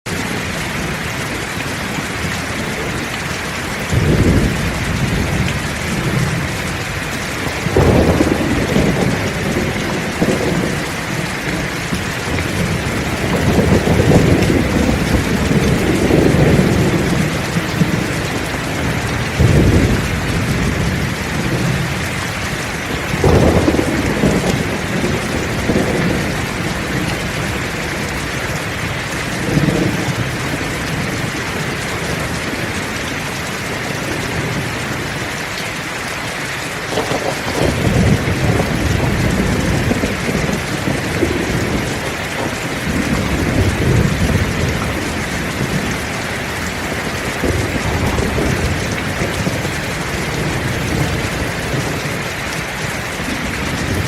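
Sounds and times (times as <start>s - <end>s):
heavy rain: 0.0s - 54.0s
thunder rumbling: 0.1s - 35.5s, 36.7s - 54.0s.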